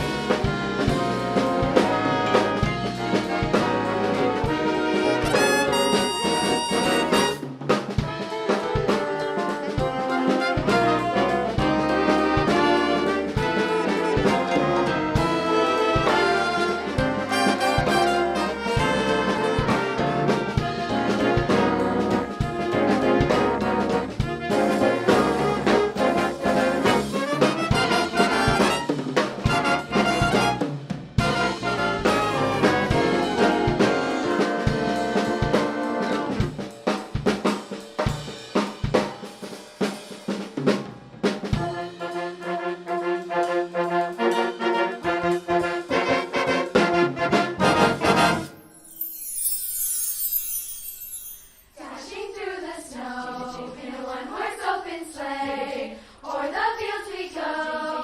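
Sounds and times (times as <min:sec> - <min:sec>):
brass band chords: 0:00.0 - 0:37.6, 0:38.2 - 0:51.3
drum kit: 0:00.0 - 0:51.7.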